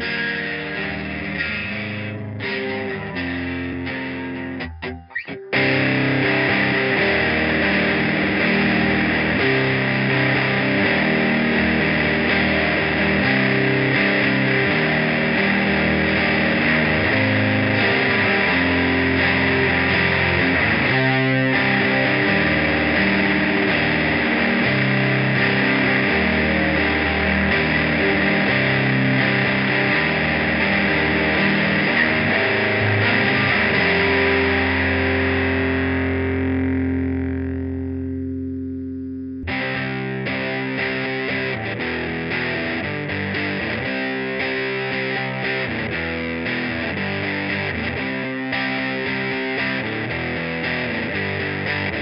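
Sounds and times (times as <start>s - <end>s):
distorted electric guitar riff: 0.0s - 52.0s.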